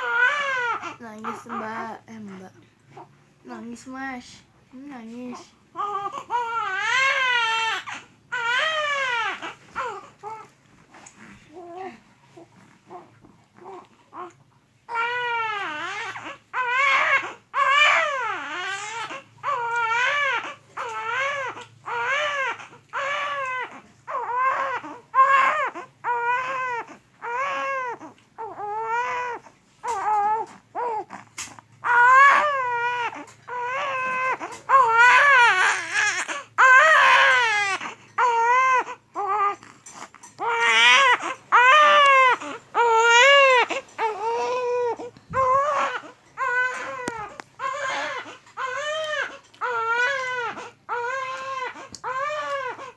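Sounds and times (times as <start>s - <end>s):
baby crying: 0.0s - 1.9s, 5.8s - 10.5s, 14.9s - 31.2s, 31.8s - 39.6s, 40.4s - 52.9s.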